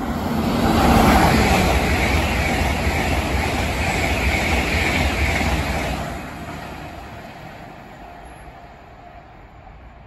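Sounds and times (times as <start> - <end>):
high-speed train passing: 0.0 - 10.0.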